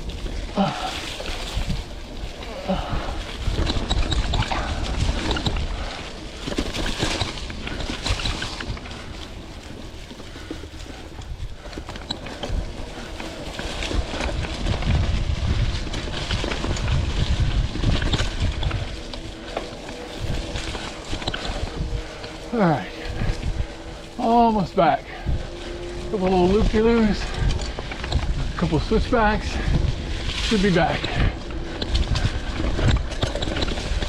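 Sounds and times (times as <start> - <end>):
bike clattering over bumps: 0.0 - 34.0
bike tyre noise on dirt: 0.0 - 34.0
wind rumbling on microphone: 0.0 - 34.0.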